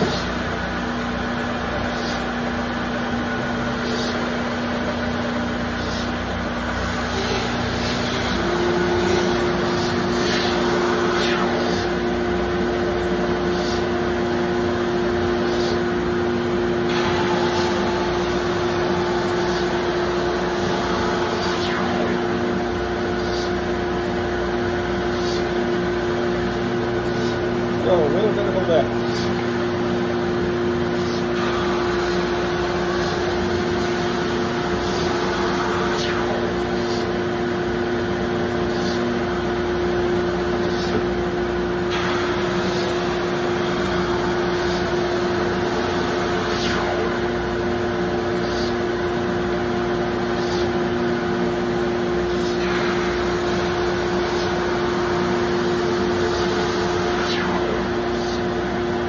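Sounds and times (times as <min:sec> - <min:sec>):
belt sander running: 0:00.0 - 0:59.0.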